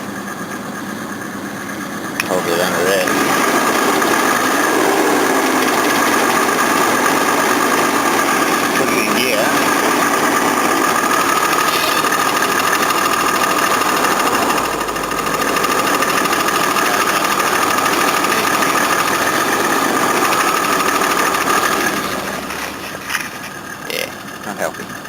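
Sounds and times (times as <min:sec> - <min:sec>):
car engine running: 0:00.0 - 0:25.0
loud clattering rattle: 0:02.4 - 0:25.0.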